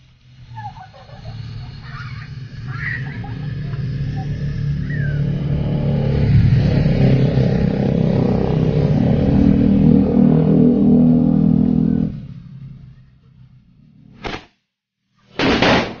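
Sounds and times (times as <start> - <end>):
motorcycle engine: 0.0 - 14.2
vehicles passing: 0.0 - 14.2.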